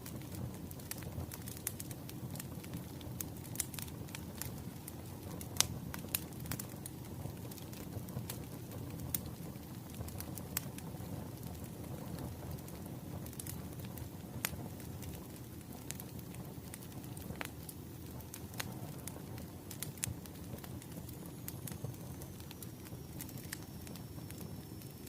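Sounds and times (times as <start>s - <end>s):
fire popping and snapping: 0.0s - 25.0s
rumble of flames: 0.0s - 25.0s.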